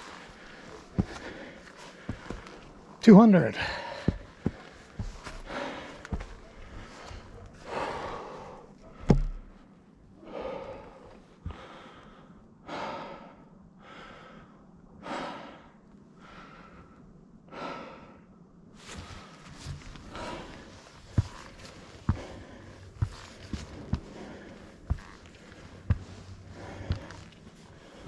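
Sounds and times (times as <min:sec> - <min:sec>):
person breathing heavily: 0:00.0 - 0:03.0, 0:03.6 - 0:09.6, 0:10.2 - 0:28.0.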